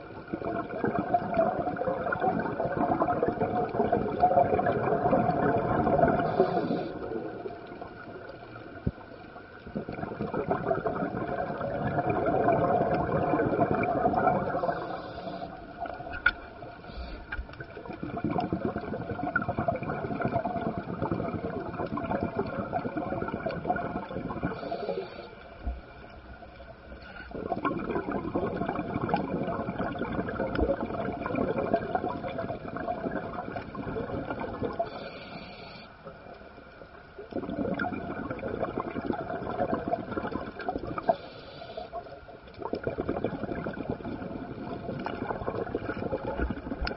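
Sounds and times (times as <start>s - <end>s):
underwater exhaled bubbles rushing: 0.0s - 46.9s.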